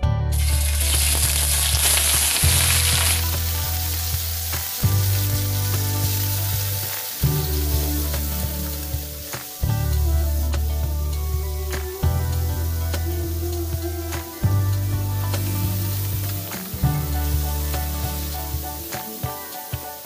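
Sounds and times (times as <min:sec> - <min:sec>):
meat sizzling in hot oil: 0:00.3 - 0:20.0.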